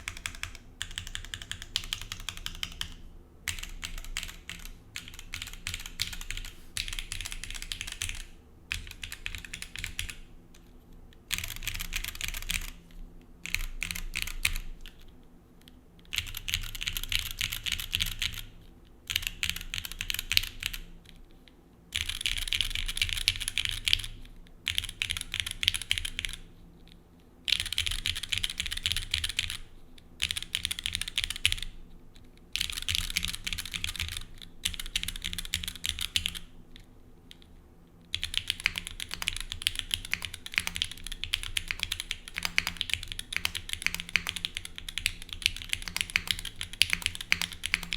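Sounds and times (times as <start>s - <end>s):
mechanical keyboard typing: 0.0s - 10.2s, 11.3s - 12.8s, 13.4s - 15.1s, 16.1s - 18.5s, 19.1s - 20.9s, 22.0s - 26.4s, 27.5s - 29.6s, 30.2s - 31.7s, 32.5s - 37.5s, 38.1s - 47.9s.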